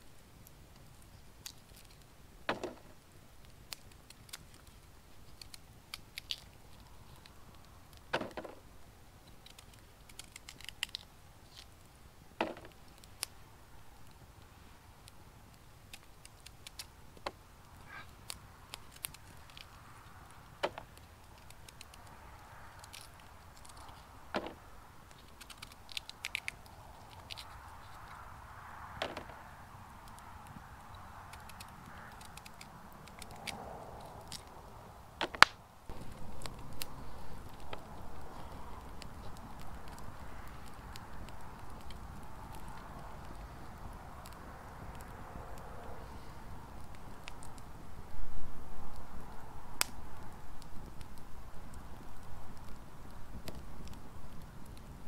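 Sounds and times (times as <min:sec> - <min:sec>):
light clicks and crackling: 0:00.2 - 0:55.0.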